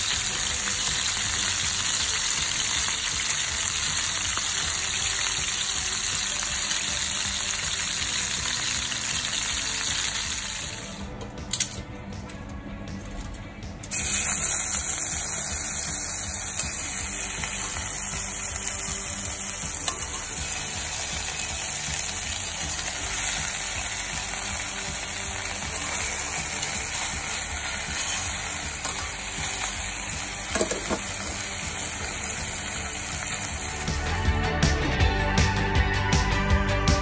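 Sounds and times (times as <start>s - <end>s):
chicken frying in hot oil: 0.0s - 11.0s, 13.9s - 34.0s.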